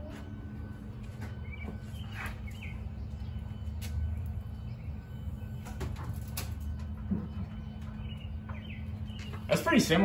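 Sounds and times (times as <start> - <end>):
steady low hum: 0.0 - 10.0
bird chirps: 1.2 - 9.9.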